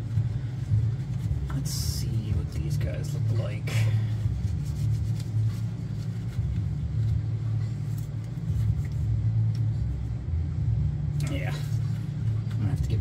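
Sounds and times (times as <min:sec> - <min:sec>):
box fan humming: 0:00.0 - 0:13.0.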